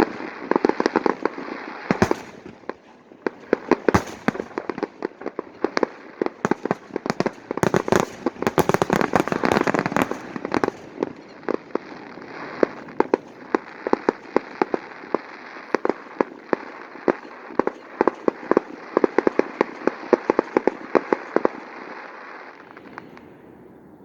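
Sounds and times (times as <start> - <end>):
fireworks cracks and pops: 0.0 - 23.3
crackling hiss: 0.0 - 24.0.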